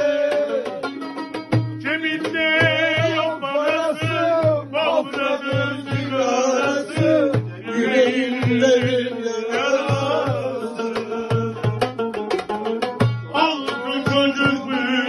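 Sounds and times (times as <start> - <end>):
man singing: 0.0 - 1.1, 1.7 - 12.2, 13.2 - 15.0
hand drum beating: 0.0 - 15.0
plucked lute: 0.0 - 15.0.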